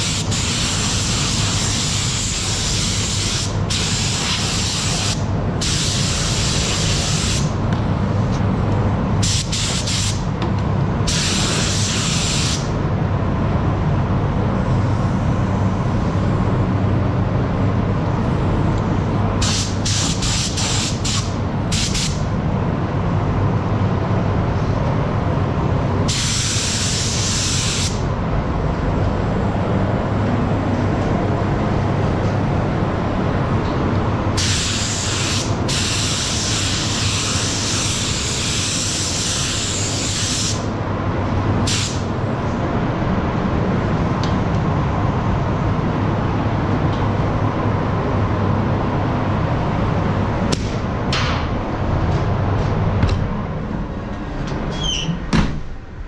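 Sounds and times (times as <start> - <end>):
ventilation hum: 0.0 - 56.0.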